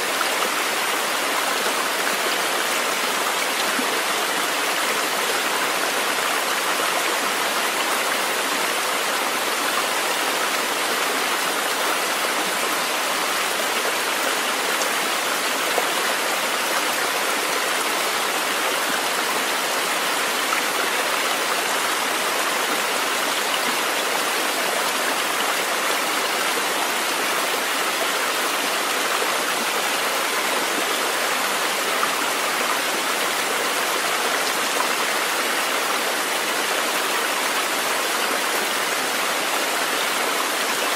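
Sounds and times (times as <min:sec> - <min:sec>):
flowing water: 0:00.0 - 0:40.9.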